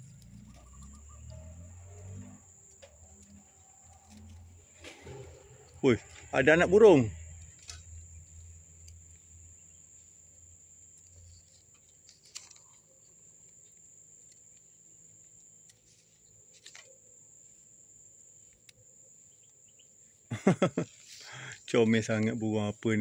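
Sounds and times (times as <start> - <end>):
faint cricket drone: 0.0 - 23.0.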